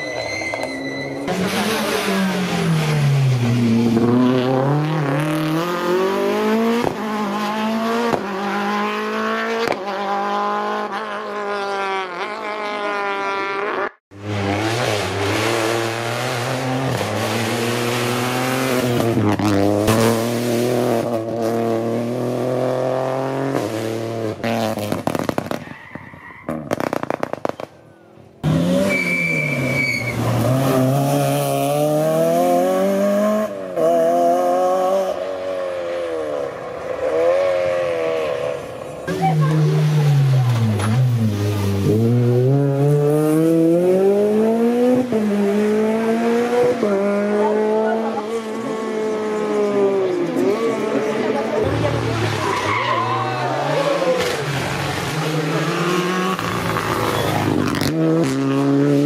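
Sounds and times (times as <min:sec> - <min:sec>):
rally car engines revving: 0:00.0 - 0:25.7, 0:28.3 - 0:59.0.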